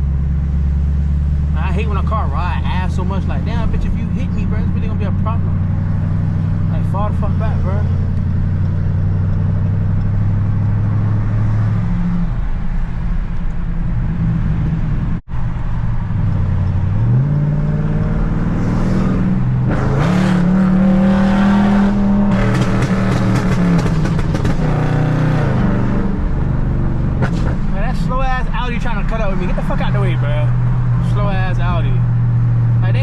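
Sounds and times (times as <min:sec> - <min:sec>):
car engine accelerating: 0:00.0 - 0:33.0
exhaust crackling: 0:00.0 - 0:33.0.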